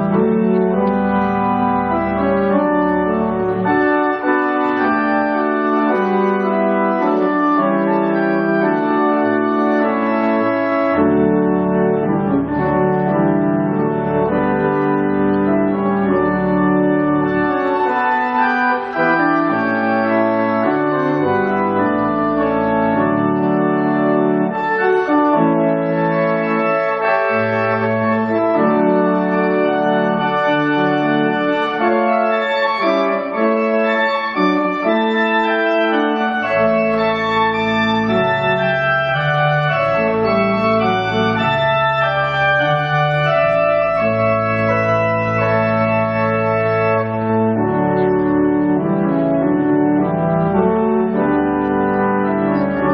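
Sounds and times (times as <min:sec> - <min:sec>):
organ bass line: 0:00.0 - 0:52.9
organ chords: 0:00.0 - 0:52.9.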